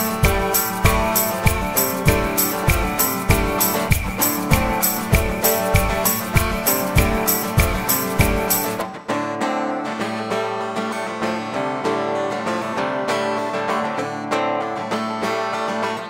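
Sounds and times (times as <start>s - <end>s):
plucked string instrument music: 0.0s - 16.0s.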